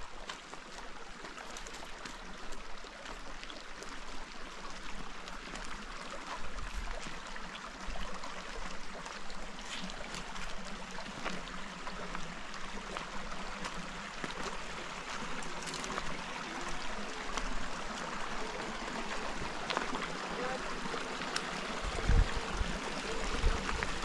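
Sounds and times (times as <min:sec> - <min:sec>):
creek water over stones: 0:00.0 - 0:24.0.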